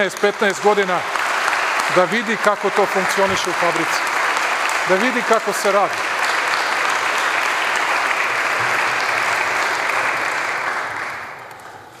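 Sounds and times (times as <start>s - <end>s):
people applauding: 0.0s - 12.0s.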